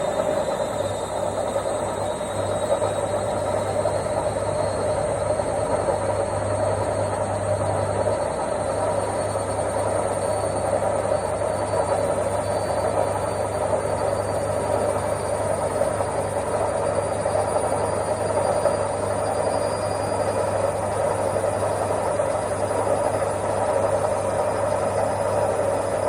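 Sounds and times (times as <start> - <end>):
washing machine running: 0.0 - 26.0.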